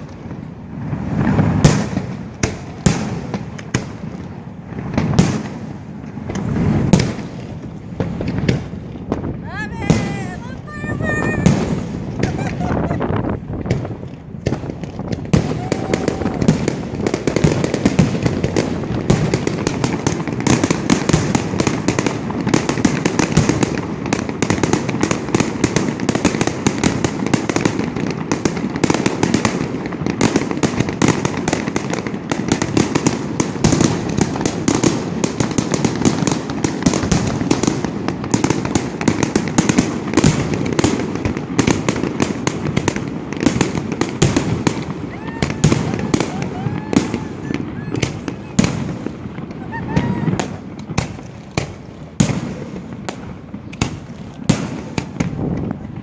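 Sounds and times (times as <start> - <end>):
fireworks booming and crackling: 0.0 - 56.0.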